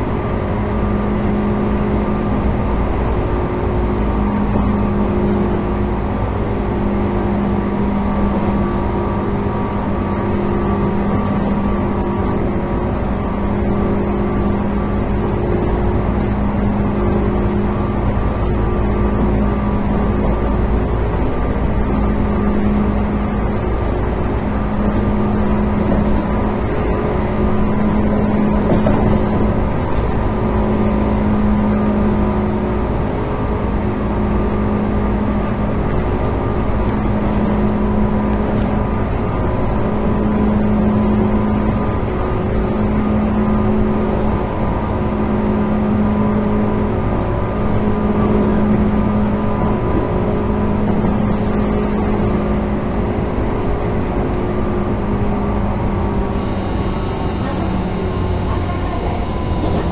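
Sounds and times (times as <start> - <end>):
electric train running: 0.0 - 59.9
train motor hum: 0.0 - 59.9.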